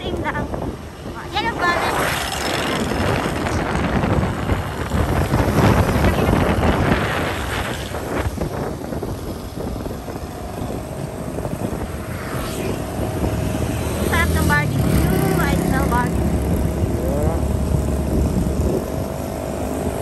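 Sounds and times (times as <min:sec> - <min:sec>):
motorbikes passing: 0:00.0 - 0:20.0
wind buffeting microphone: 0:00.0 - 0:20.0
motorcycle engine: 0:01.2 - 0:20.0.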